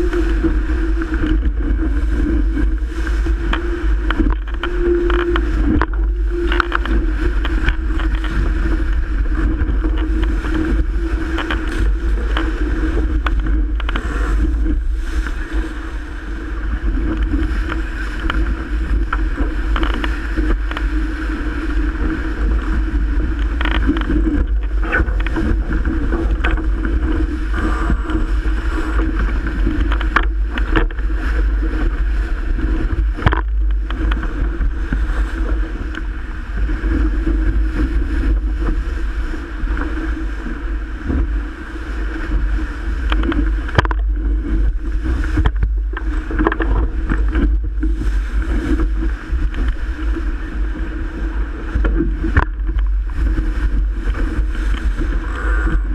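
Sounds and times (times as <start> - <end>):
water slaps and splashes: 0.0 - 15.6, 16.8 - 55.2
water rushing along hull: 0.0 - 55.9
wind buffeting microphone: 0.0 - 55.9.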